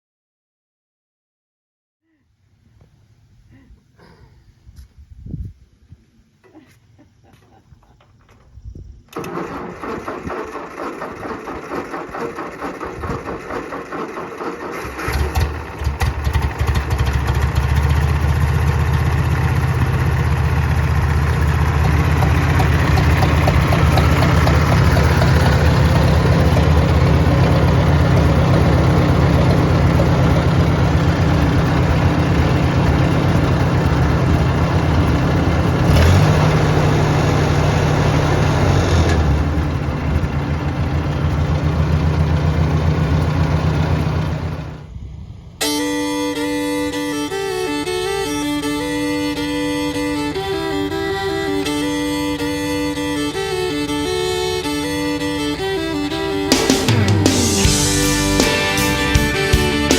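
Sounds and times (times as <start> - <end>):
tractor engine cranking and running: 7.7 - 46.0, 46.6 - 59.9.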